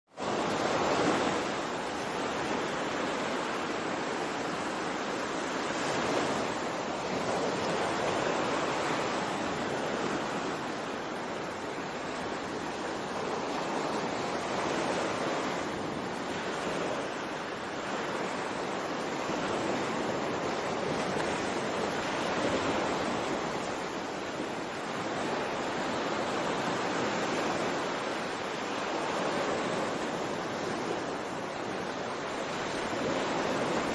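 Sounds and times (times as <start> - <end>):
rushing water: 0.1 - 33.9.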